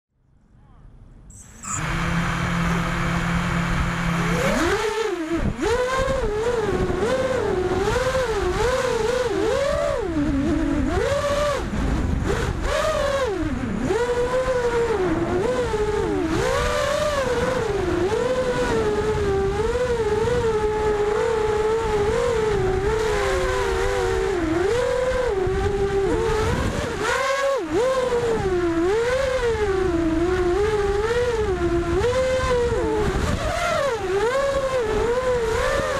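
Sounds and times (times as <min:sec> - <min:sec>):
drone motors whining: 0:01.3 - 0:11.9, 0:12.5 - 0:35.9
wind on the microphone: 0:05.3 - 0:35.9.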